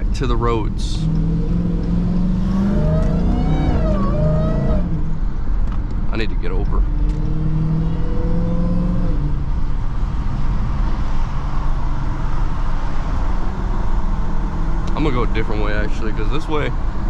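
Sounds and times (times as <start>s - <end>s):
car engine pulling: 0.0s - 17.0s.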